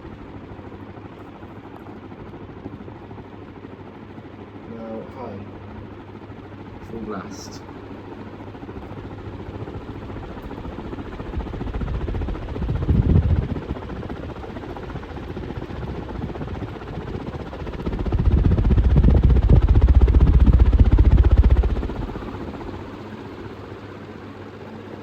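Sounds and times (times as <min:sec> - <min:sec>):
ceiling fan whooshing hum: 0:00.0 - 0:25.0.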